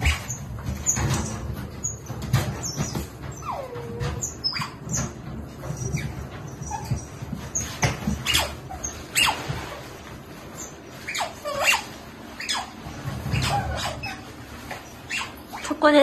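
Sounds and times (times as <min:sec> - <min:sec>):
otters chirping and squeaking: 0:00.0 - 0:16.0.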